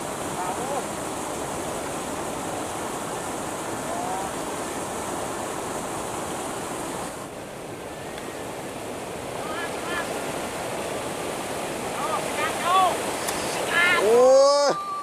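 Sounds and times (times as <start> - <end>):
river water over cascade: 0.0 - 15.0.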